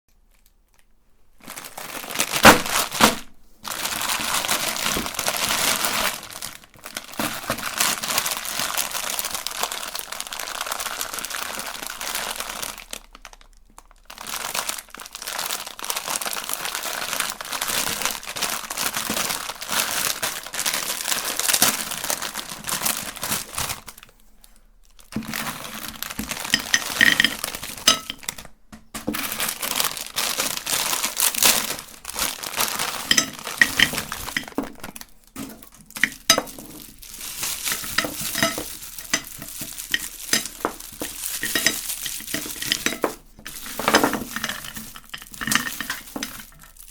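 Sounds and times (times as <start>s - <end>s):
candy crunching in meat grinder: 1.5s - 24.0s, 24.9s - 28.4s, 29.0s - 46.9s.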